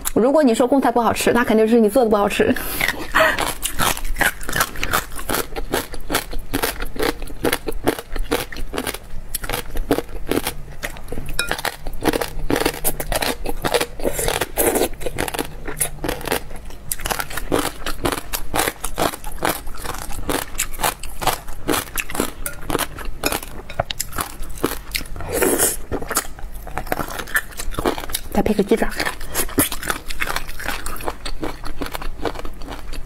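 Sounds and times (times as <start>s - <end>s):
crunchy chewing: 2.6s - 33.0s.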